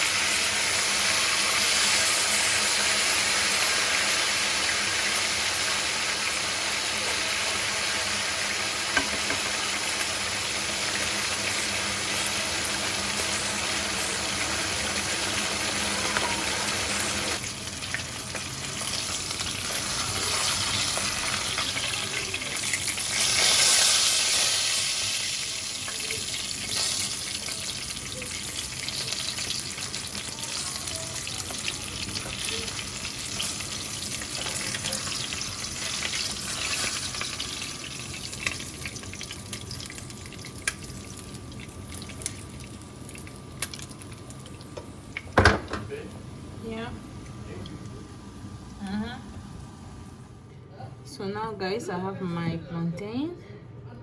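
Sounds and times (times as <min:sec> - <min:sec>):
fish frying in hot oil: 0:00.0 - 0:46.0.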